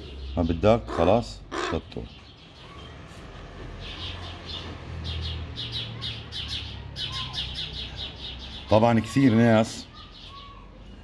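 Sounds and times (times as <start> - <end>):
bird chirping: 0.0 - 3.0, 3.8 - 11.0.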